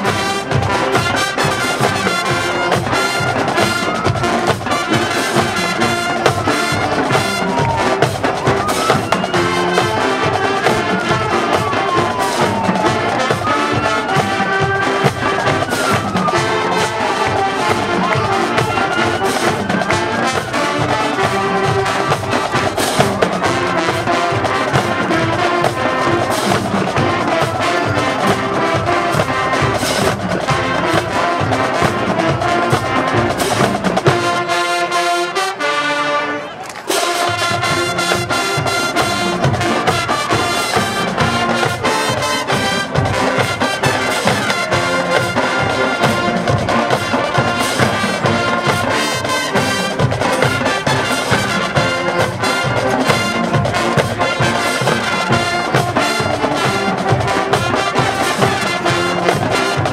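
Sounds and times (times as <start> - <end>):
brass section playing: 0.0 - 59.9
drumline percussion: 0.0 - 59.9.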